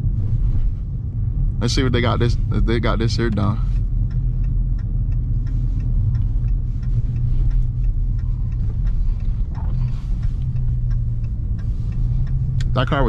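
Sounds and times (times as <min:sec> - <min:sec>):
car driving low rumble: 0:00.0 - 0:13.0
faint light ticks: 0:01.6 - 0:13.0.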